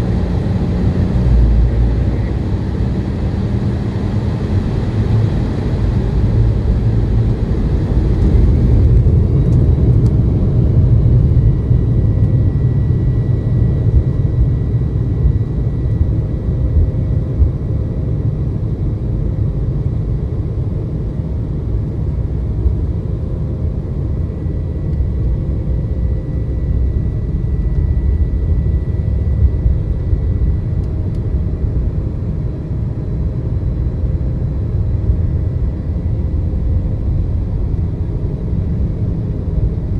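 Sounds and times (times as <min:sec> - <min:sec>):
airliner engine and airflow rumble: 0:00.0 - 0:39.9
faint steady whine: 0:00.0 - 0:39.9.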